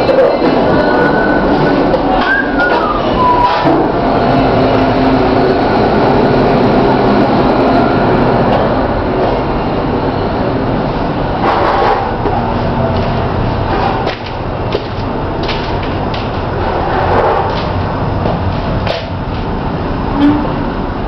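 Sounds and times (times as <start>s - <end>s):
ship machinery rumble and hum: 0.0s - 21.0s.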